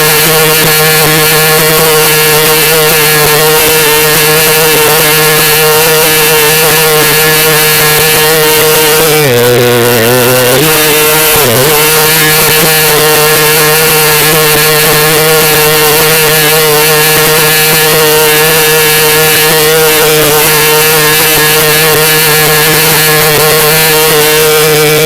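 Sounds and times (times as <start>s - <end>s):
glitched synthetic voice buzzing tone: 0.0s - 25.0s.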